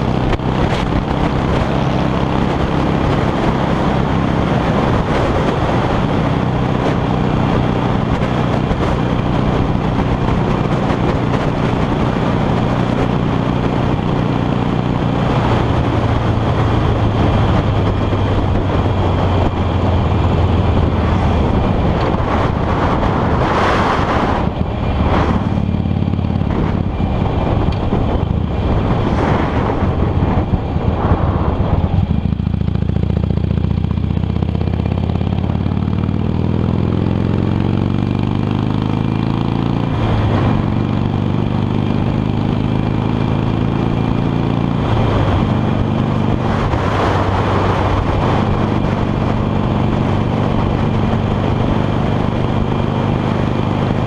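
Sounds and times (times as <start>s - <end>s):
motorcycle engine at road speed: 0.0s - 54.0s
wind gusts on microphone: 0.0s - 54.0s.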